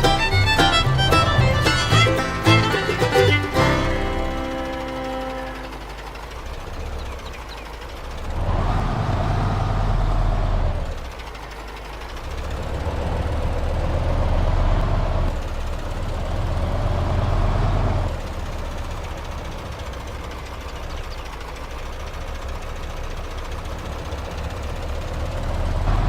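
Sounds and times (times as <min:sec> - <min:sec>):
engine rumble: 0:00.0 - 0:26.0.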